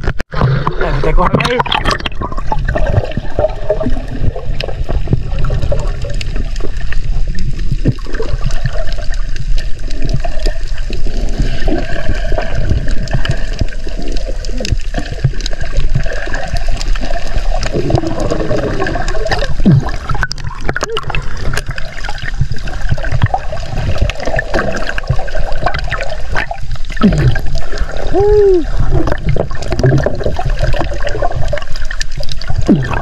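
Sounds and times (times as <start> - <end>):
muffled underwater rumble: 0.0 - 33.0
water bubbling and crackling: 0.0 - 33.0.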